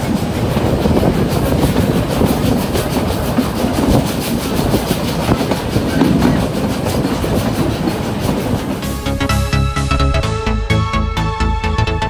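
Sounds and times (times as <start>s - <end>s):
wheels clickety-clack on rails: 0.0s - 10.2s
train rumble: 0.0s - 11.3s.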